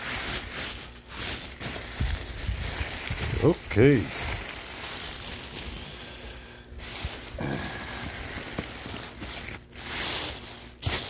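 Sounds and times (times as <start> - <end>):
packing peanuts rustling: 0.0 - 11.0.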